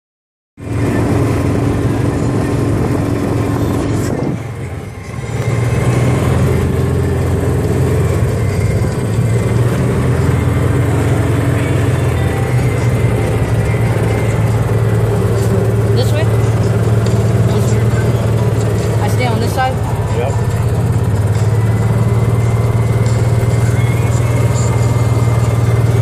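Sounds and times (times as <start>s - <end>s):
small vehicle engine running: 0.6s - 26.0s.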